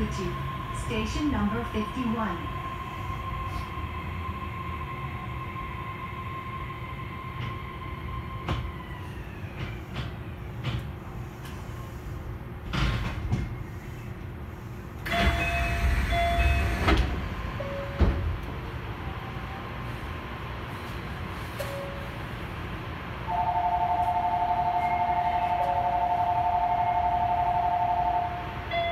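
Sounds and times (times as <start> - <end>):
monorail train whine: 0.0 - 28.9
train rushing: 0.0 - 28.9.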